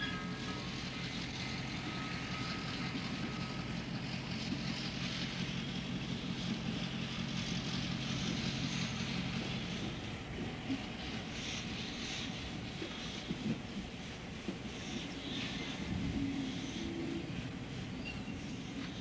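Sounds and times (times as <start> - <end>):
hiss: 0.0 - 19.0
locomotive engine rumble: 0.0 - 19.0.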